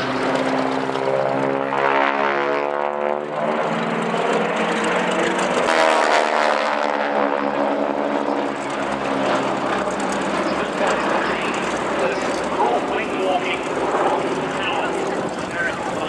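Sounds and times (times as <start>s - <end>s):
biplane engines droning past: 0.0s - 16.0s.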